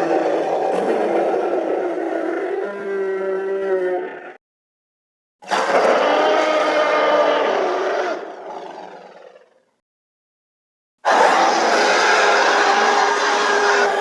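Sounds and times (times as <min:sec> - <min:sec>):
dinosaur roar: 0:00.0 - 0:04.4, 0:05.4 - 0:09.7, 0:11.1 - 0:14.0.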